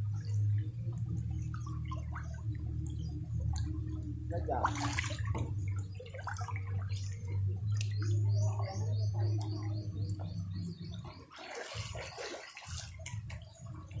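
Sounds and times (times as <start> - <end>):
pool water sloshing: 0.0 - 14.0
water drips: 0.0 - 14.0.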